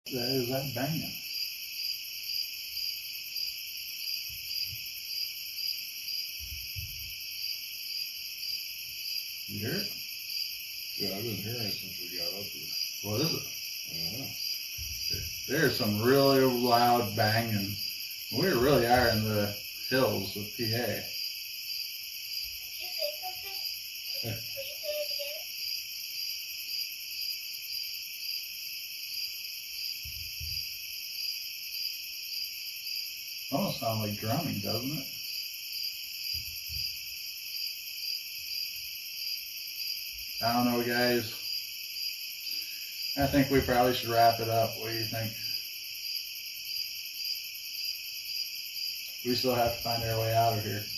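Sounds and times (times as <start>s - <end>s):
night insects trilling: 0.1s - 50.9s.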